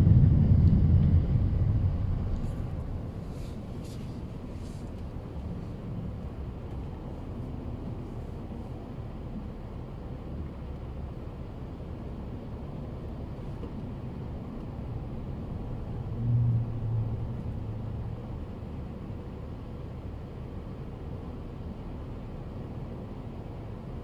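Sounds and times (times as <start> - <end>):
car road and engine rumble: 0.0 - 24.0
low engine drone: 0.0 - 24.0.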